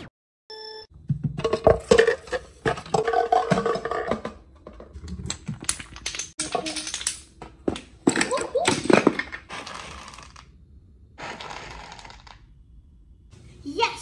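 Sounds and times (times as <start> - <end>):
wooden blocks and ball clattering: 1.1 - 12.7.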